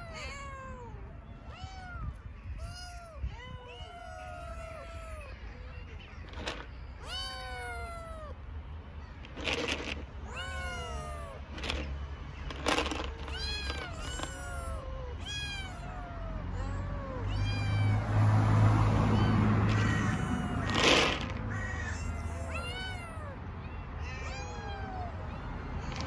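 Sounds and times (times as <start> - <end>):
kittens meowing: 0.0 - 26.0.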